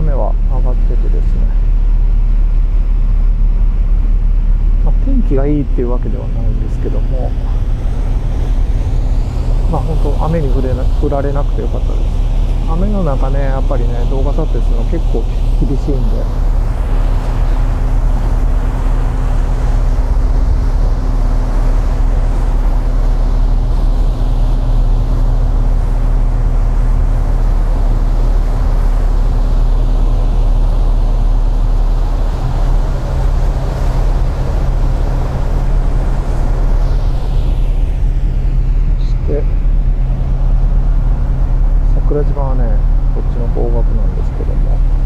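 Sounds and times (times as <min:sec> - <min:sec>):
ship engine droning: 0:00.0 - 0:45.0.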